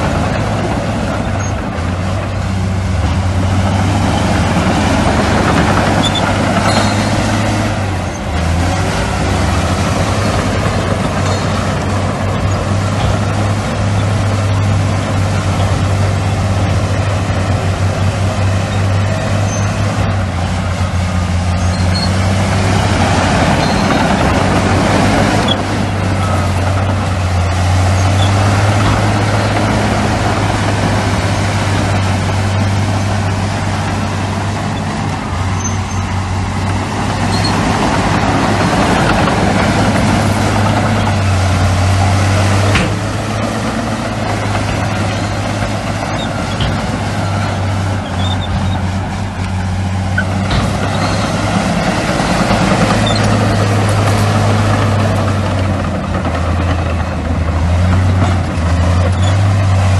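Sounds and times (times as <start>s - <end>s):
diesel machinery engine drone: 0.0s - 59.9s
machinery working noise: 0.0s - 59.9s.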